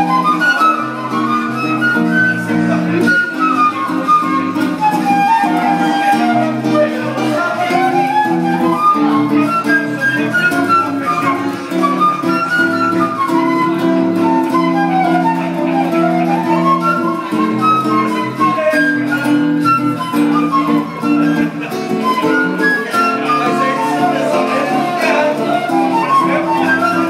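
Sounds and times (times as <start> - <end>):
flute melody: 0.0 - 27.0
strummed guitar chords: 0.0 - 27.0.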